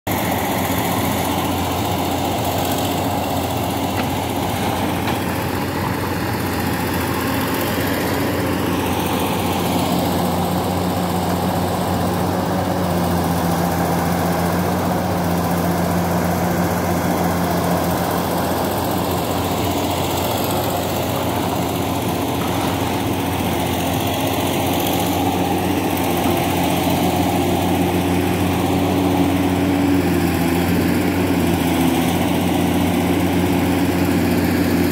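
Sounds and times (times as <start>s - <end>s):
diesel truck idling: 0.1s - 34.9s
excavator working: 0.1s - 34.9s.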